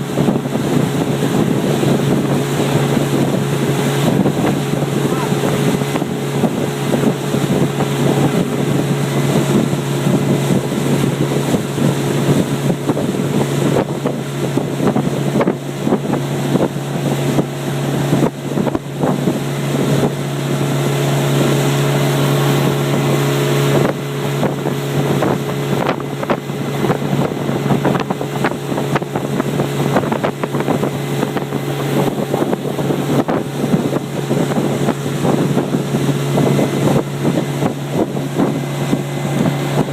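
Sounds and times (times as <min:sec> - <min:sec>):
motorboat engine running: 0:00.0 - 0:39.9
wind buffeting microphone: 0:00.0 - 0:39.9.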